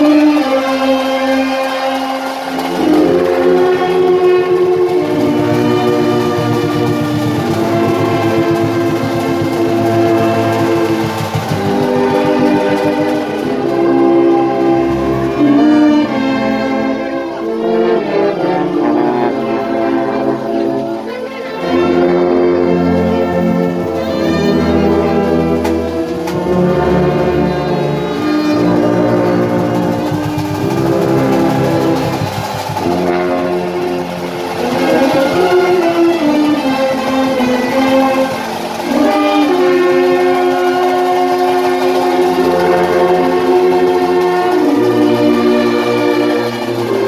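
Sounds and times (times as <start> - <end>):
brass band playing chords: 0.0 - 47.0.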